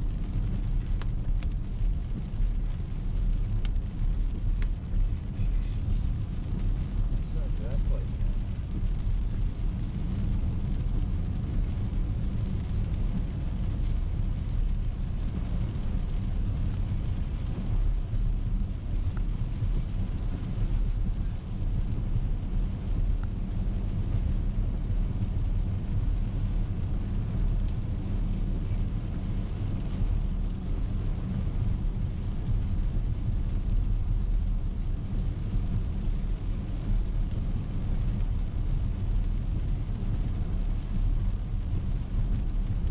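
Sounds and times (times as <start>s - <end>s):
car driving on wet road: 0.0s - 42.9s.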